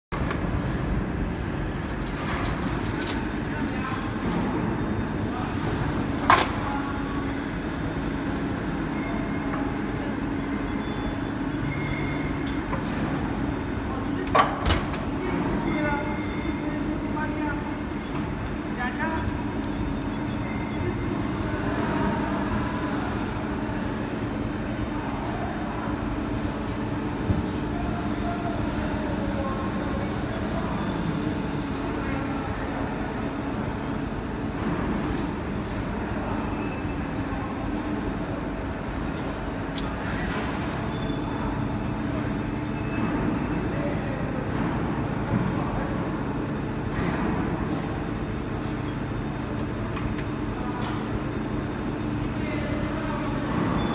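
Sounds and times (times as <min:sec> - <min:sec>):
faint machine whine: 0:00.2 - 0:53.9
machine hum and hiss: 0:00.2 - 0:53.9.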